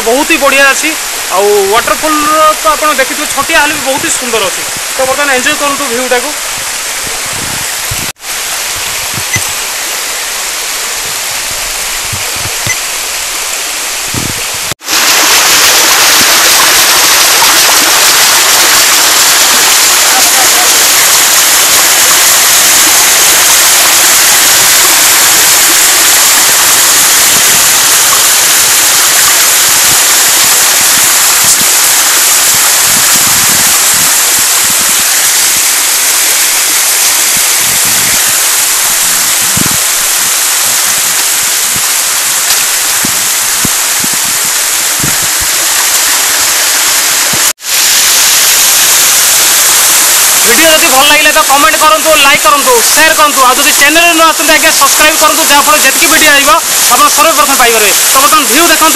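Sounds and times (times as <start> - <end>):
waterfall rushing over rocks: 0.0 - 58.9.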